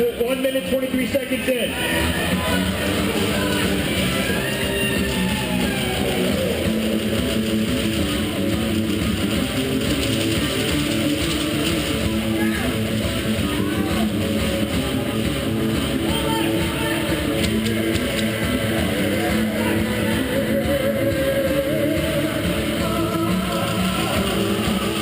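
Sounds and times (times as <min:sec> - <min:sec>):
guitar-led rock music: 0:00.0 - 0:25.0.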